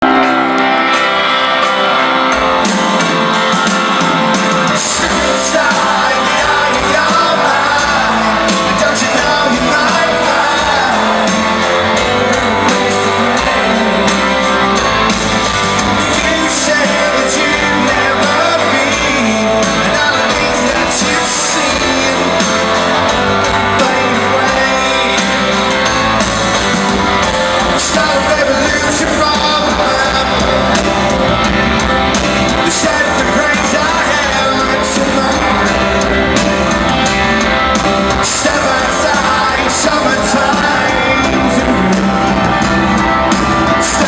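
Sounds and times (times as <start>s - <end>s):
person singing: 0.0s - 44.0s
rock band playing: 0.0s - 44.0s.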